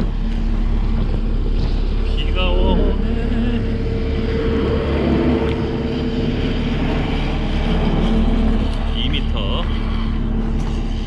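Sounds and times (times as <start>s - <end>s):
engine and road rumble: 0.0s - 11.0s
wind and rain rushing: 0.0s - 11.0s.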